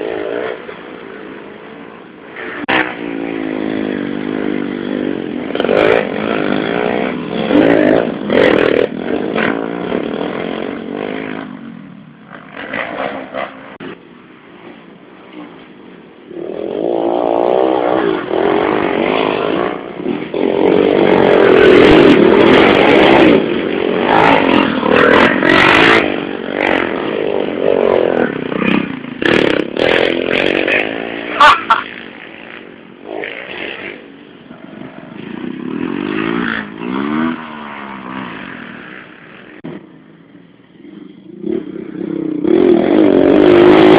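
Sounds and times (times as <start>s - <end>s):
motorcycles racing past: 0.0s - 43.9s.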